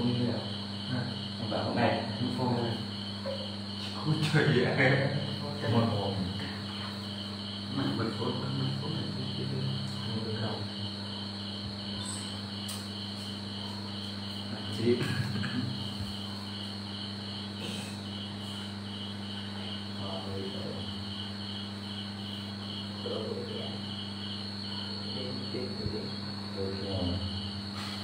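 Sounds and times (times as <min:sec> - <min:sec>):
insect chirping in pulsing trill: 0:00.0 - 0:28.0.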